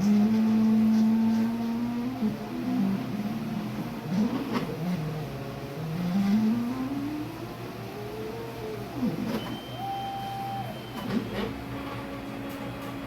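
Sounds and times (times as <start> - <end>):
stepper motors whining: 0.0 - 12.8.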